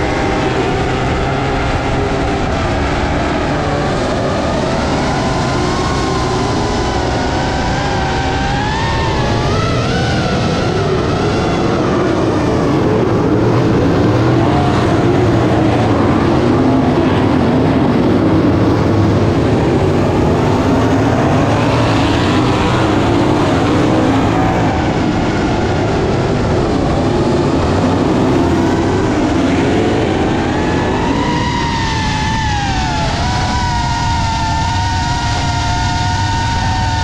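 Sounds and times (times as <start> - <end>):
racing car engines: 0.0 - 37.0
quadcopter motors whining: 3.7 - 37.0.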